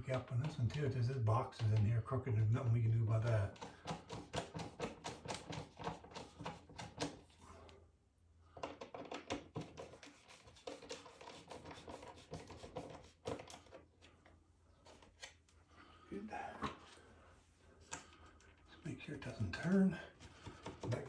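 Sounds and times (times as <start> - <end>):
plastic clicking and scraping: 0.0 - 7.8, 8.5 - 15.6, 17.8 - 21.0.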